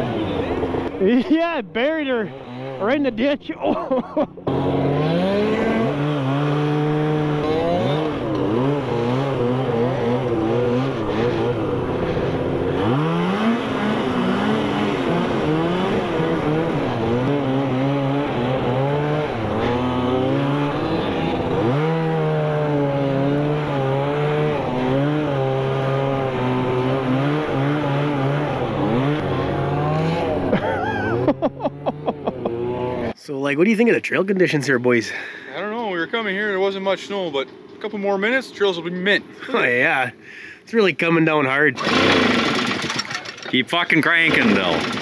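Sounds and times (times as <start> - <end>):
snowmobile engine revving: 0.0 - 35.4, 36.0 - 43.0, 43.6 - 45.0.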